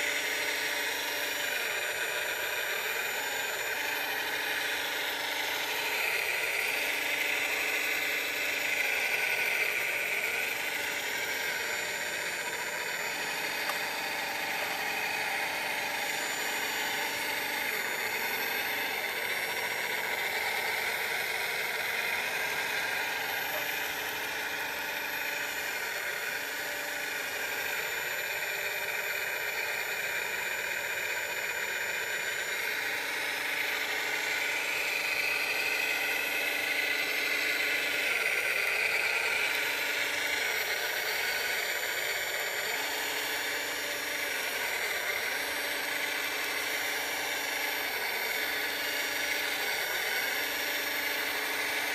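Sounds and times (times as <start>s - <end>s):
electric motor whine: 0.0s - 51.9s.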